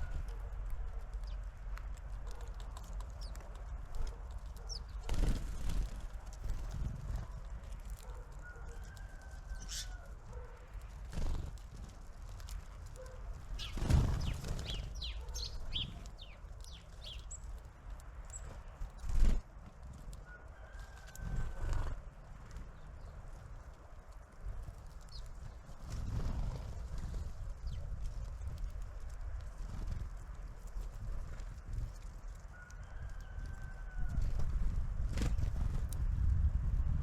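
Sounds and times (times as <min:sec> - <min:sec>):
birds pecking and fluttering: 0:00.0 - 0:37.0
wind rumble on microphone: 0:00.0 - 0:37.0.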